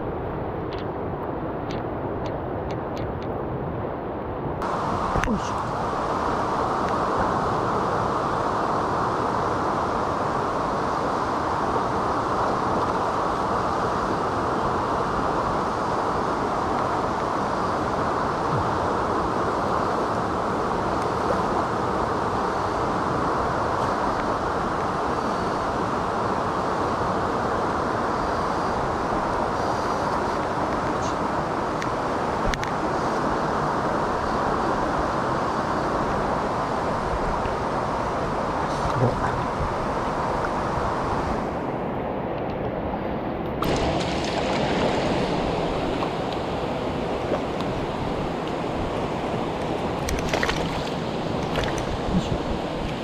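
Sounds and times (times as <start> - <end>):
rushing mountain stream: 0.0 - 53.0.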